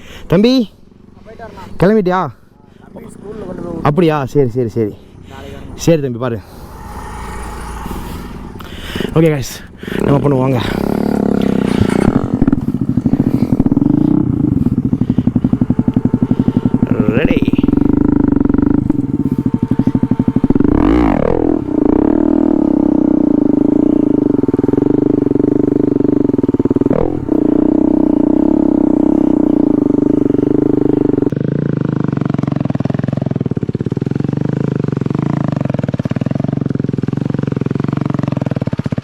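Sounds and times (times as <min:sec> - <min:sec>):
motorcycle engine at high revs: 0:04.8 - 0:39.0.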